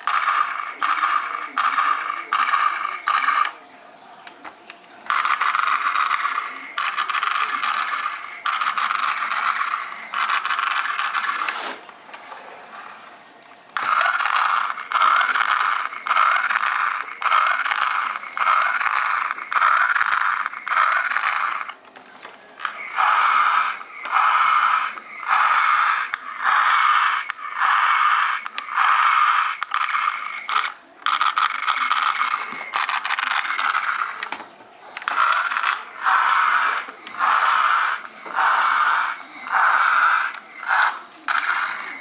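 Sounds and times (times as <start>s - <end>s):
toy electronic raspy pulses: 0.0s - 3.6s, 5.1s - 11.6s, 13.8s - 21.8s, 22.6s - 34.3s, 35.0s - 42.0s.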